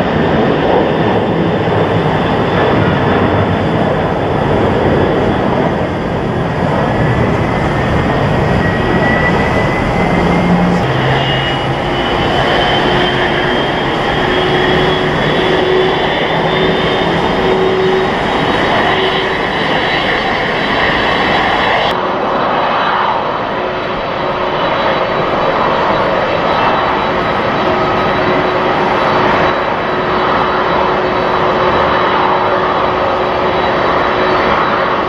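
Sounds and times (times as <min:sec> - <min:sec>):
jet approach rush: 0:00.0 - 0:35.0
jet climbing rush: 0:00.0 - 0:35.0.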